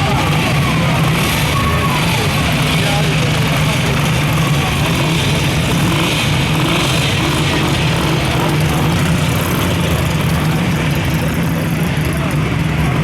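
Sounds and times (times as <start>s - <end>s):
motorcycle engines running: 0.0s - 13.0s
people talking faintly: 0.0s - 13.0s.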